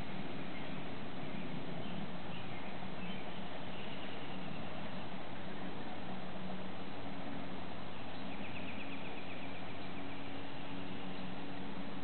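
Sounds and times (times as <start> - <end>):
faint low hum: 0.0 - 12.0
steady outdoor hiss: 0.0 - 12.0.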